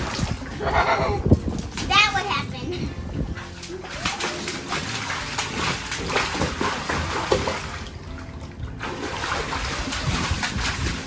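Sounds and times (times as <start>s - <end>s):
water splashing around legs: 0.0s - 2.3s, 3.0s - 11.0s.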